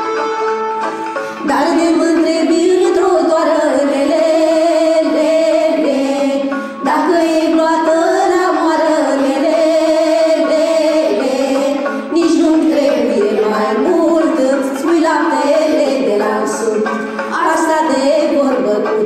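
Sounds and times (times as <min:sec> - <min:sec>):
girls and women singing folk song: 0:01.4 - 0:19.0.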